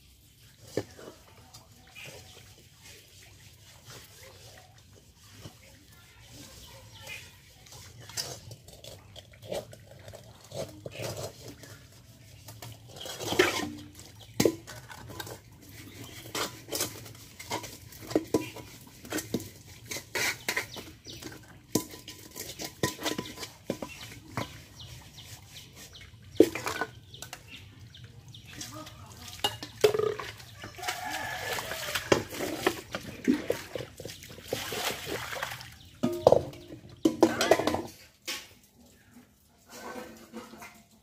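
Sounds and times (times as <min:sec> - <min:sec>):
water pouring: 0:00.0 - 0:39.0
metal pots clattering and scraping: 0:00.0 - 0:41.0.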